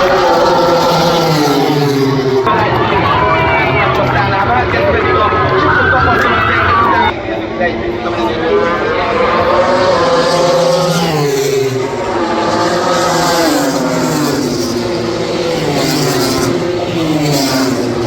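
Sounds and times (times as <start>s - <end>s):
race motorcycles passing at speed: 0.0s - 18.0s.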